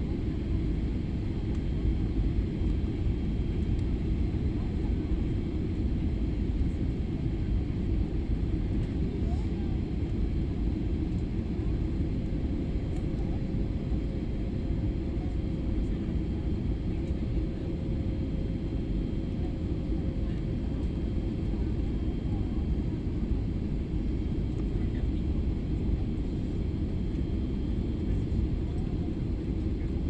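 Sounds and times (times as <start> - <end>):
airliner cabin engine rumble: 0.0 - 30.0.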